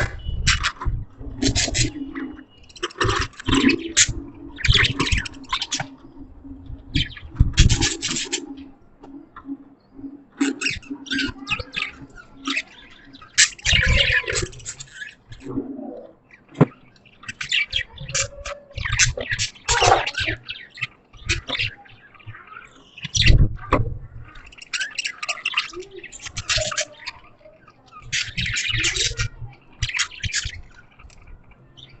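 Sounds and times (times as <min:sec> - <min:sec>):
budgies chattering: 0:00.0 - 0:32.0.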